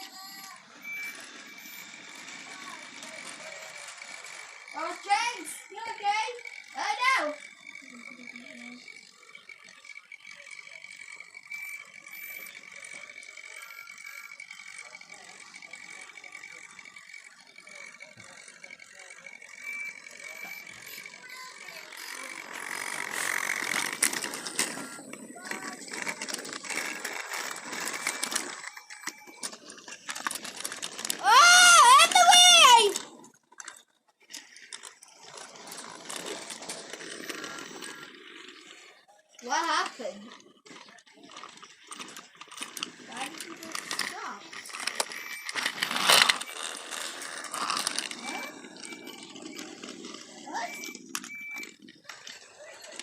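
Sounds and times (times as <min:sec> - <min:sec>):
gears ticking: 0:00.0 - 0:53.0
toy train motor whirring: 0:00.0 - 0:53.0.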